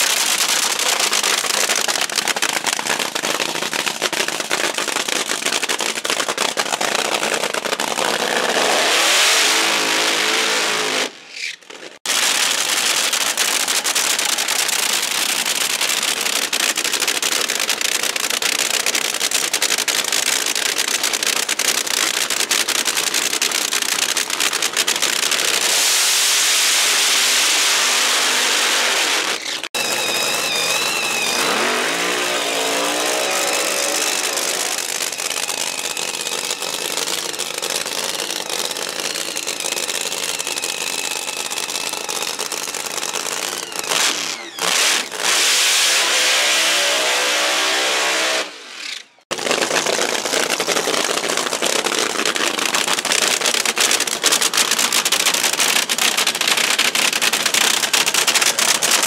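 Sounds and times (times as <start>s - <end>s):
drag car engines revving loudly: 0.0s - 59.0s.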